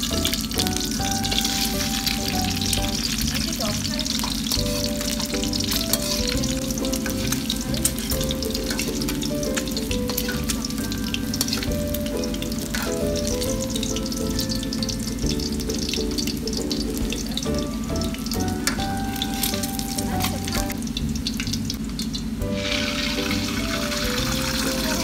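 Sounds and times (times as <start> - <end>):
egg sizzling in oil: 0.0 - 25.0.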